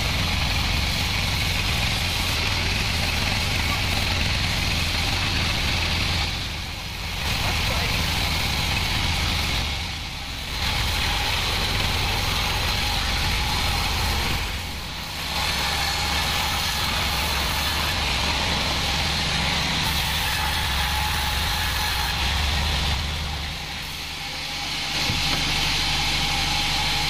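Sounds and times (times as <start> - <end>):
sawmill machine hum: 0.0 - 27.0.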